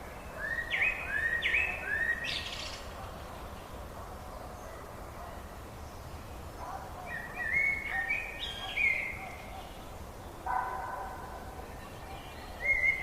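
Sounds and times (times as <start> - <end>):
songbirds calling: 0.0 - 13.0
steady background hiss: 0.0 - 13.0.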